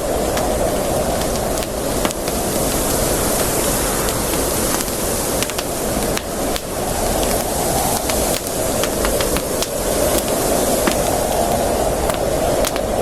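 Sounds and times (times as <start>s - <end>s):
campfire hissing: 0.0s - 13.0s
fire crackles and pops: 0.0s - 13.0s.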